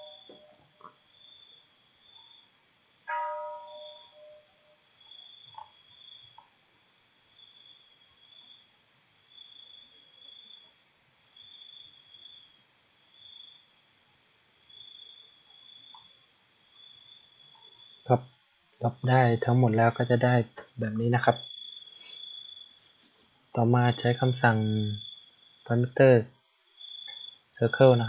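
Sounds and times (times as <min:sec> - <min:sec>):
crickets chirping: 0:00.0 - 0:28.0
steady high hiss: 0:00.0 - 0:28.0.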